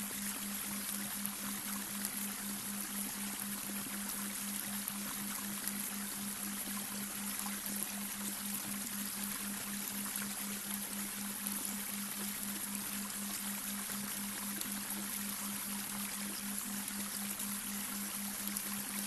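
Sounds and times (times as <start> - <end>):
low pulsing humming tone: 0.0 - 19.0.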